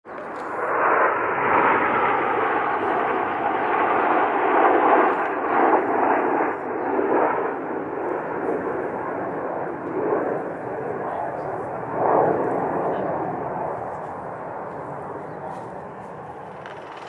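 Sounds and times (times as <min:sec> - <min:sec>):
jets flying over: 0:00.1 - 0:17.0.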